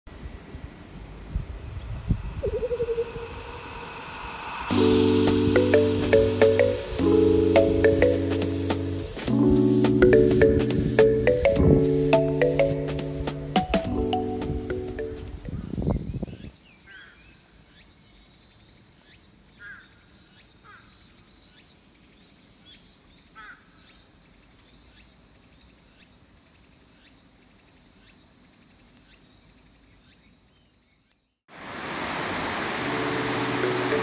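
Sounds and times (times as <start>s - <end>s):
cicadas droning: 0.1s - 14.3s, 14.9s - 34.0s.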